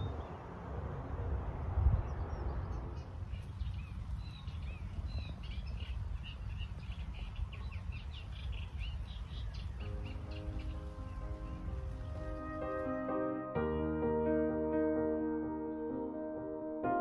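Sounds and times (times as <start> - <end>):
songbirds chirping: 0.0 - 16.2.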